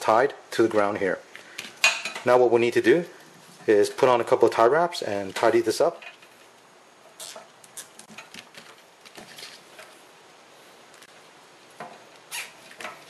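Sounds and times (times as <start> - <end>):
wires rustling: 0.0 - 13.0.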